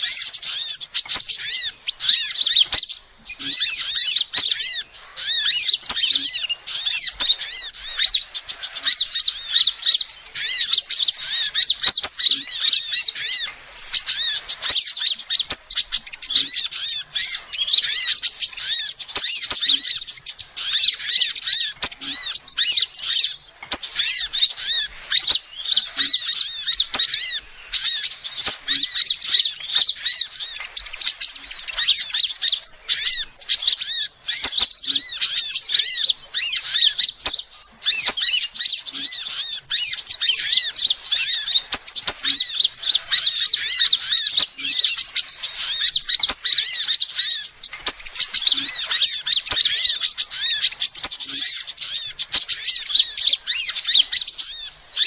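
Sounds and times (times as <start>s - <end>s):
sunbird high thin chirps: 0.0s - 55.0s.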